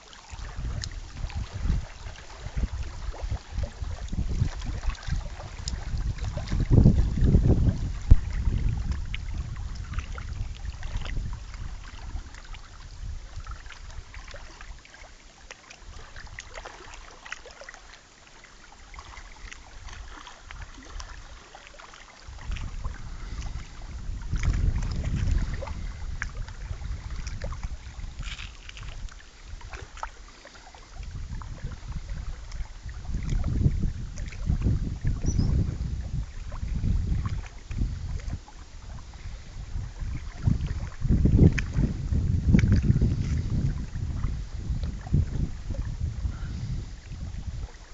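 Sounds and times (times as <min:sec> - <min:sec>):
wind gusting on microphone: 0:00.3 - 0:14.4, 0:22.3 - 0:30.1, 0:30.9 - 0:47.9.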